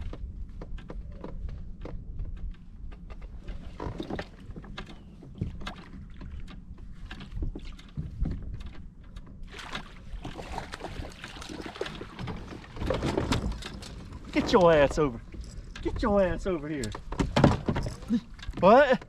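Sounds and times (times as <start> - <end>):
wind rumble on microphone: 0.0 - 18.8.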